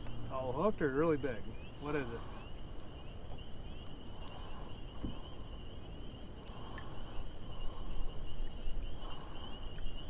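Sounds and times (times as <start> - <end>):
wind rumbling on microphone: 1.2 - 10.0.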